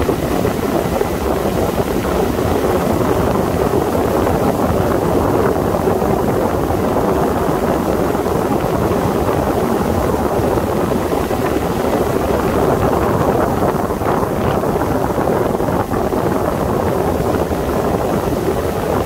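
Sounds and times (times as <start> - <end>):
motorboat engine and water rush: 0.0 - 19.0
wind buffeting microphone: 0.0 - 19.0.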